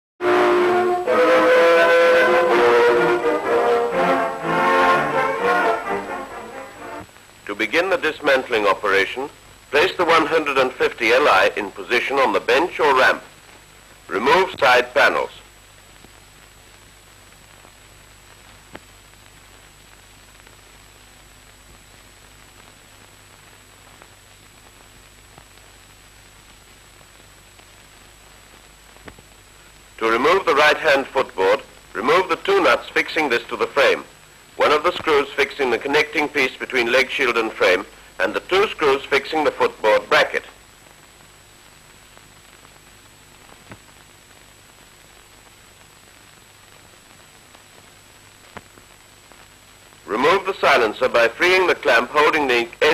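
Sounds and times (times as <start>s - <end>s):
soundtrack hiss: 0.2s - 52.9s.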